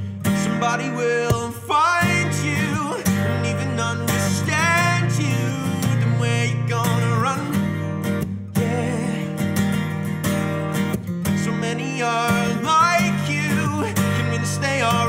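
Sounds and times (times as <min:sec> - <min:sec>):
acoustic guitar strumming: 0:00.0 - 0:15.0
bass guitar line: 0:00.0 - 0:15.0
man singing: 0:00.2 - 0:09.6, 0:11.3 - 0:15.0.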